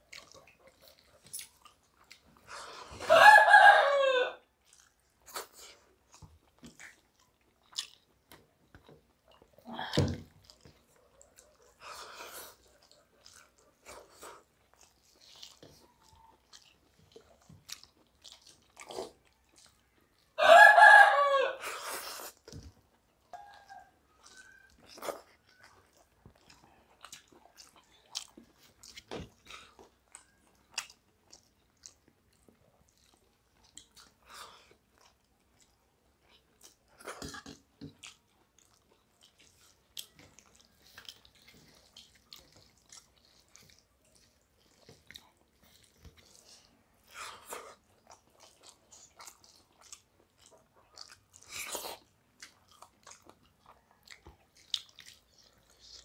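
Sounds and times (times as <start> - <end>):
chewing and mouth noises: 0.0 - 56.0.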